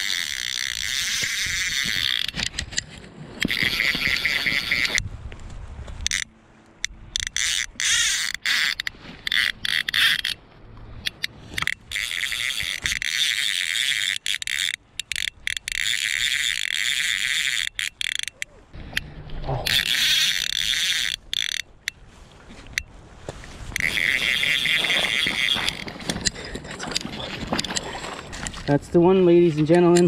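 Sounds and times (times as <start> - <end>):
fly reel ratcheting: 0.0 - 5.0, 6.0 - 10.4, 11.0 - 22.0, 23.7 - 27.9.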